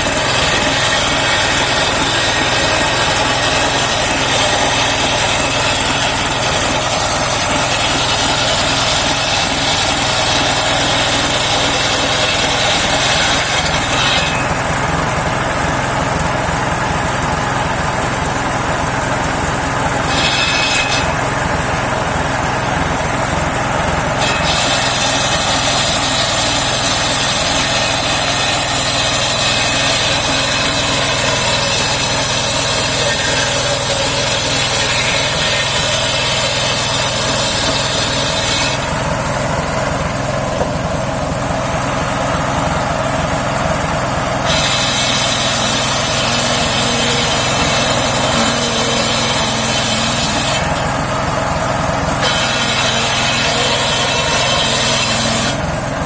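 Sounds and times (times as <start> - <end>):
engine-driven circular sawmill running: 0.0 - 56.0
saw blade cutting wood: 0.0 - 56.0.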